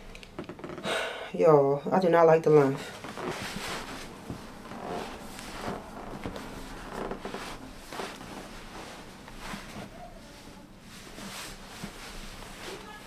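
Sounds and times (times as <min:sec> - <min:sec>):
clothing rustling: 0:02.5 - 0:13.0.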